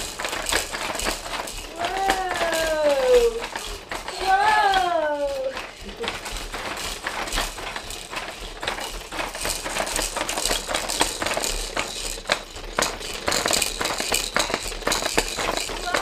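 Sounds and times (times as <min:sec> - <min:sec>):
baby jumper rattling and clicking: 0:00.0 - 0:16.0.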